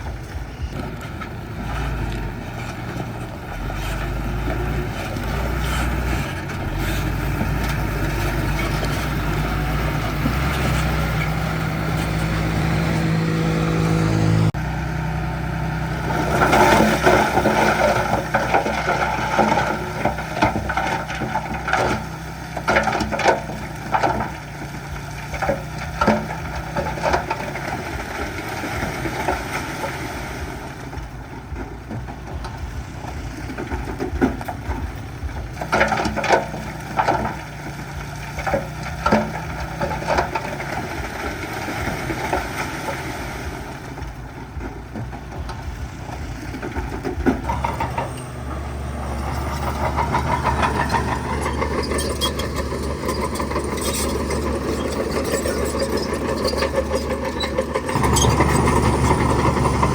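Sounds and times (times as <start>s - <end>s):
diesel machine engine running: 0.0s - 59.9s.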